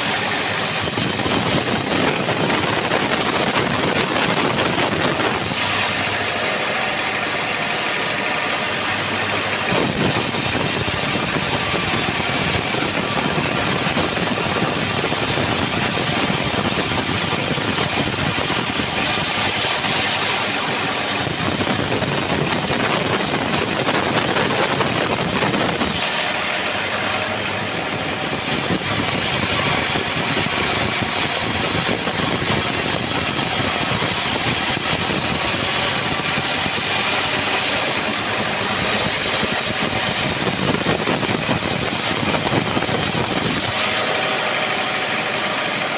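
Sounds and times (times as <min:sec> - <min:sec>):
band sawmill sawing a log: 0:00.0 - 0:45.9.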